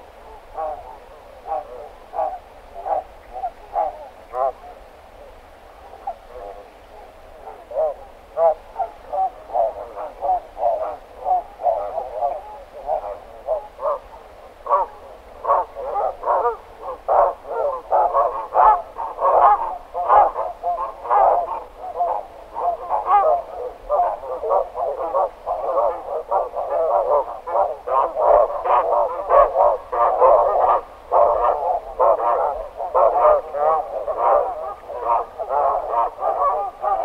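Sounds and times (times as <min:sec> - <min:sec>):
geese calling: 0:00.0 - 0:04.7, 0:07.4 - 0:37.0.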